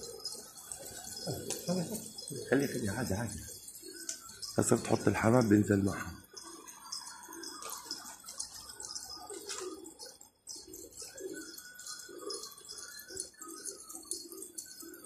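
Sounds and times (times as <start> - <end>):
high chirping: 0.0 - 15.0
pigeons cooing: 0.0 - 15.0.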